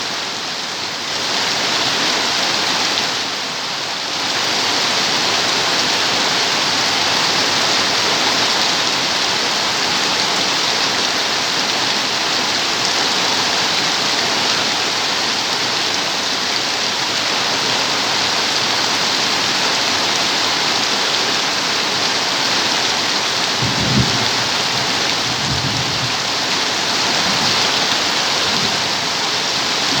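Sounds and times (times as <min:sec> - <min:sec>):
dense rain falling: 0:00.0 - 0:30.0.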